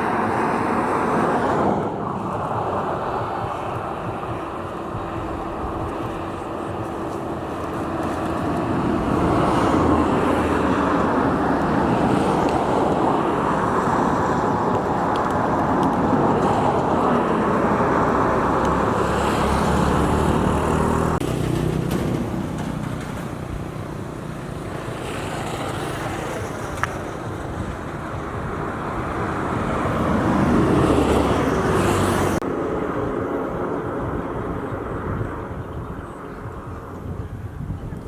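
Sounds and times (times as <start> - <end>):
road vehicle noise: 0.0 - 38.0.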